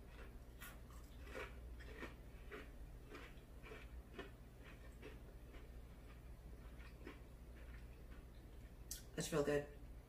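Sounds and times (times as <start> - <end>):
crunchy chewing: 0.0 - 9.0.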